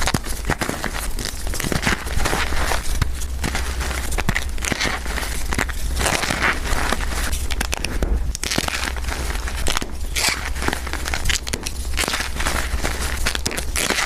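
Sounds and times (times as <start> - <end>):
chalk being crushed by hand: 0.0 - 14.0.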